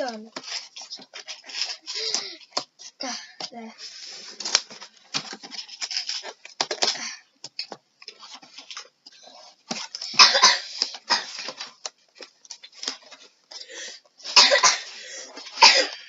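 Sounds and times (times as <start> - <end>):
packaging rustling and scraping: 0.0 - 16.0.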